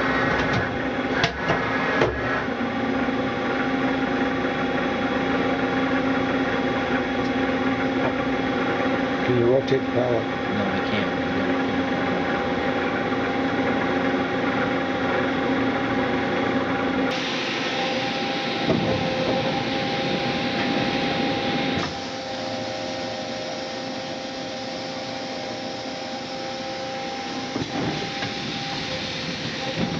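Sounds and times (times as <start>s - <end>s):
machine mechanical hum: 0.0s - 29.9s.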